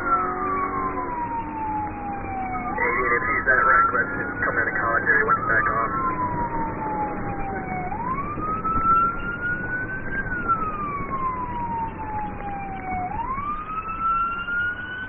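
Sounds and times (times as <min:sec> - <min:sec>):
engine and road noise: 0:00.0 - 0:15.0
police siren wailing: 0:00.0 - 0:15.0.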